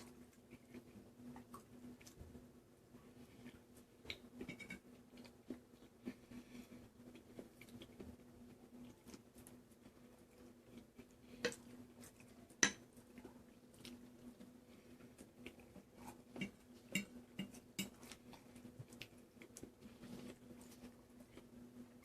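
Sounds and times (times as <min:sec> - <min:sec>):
quiet chewing: 0:00.0 - 0:22.0.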